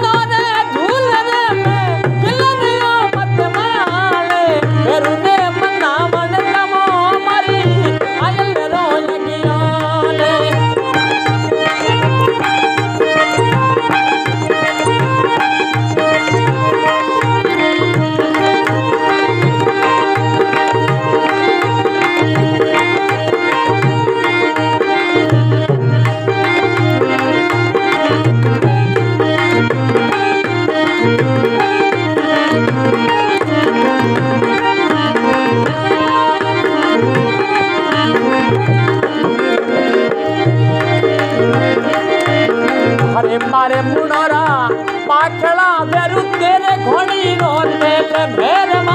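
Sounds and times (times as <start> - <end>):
hand drum rhythm: 0.0 - 48.9
keyed instrument melody: 0.0 - 48.9.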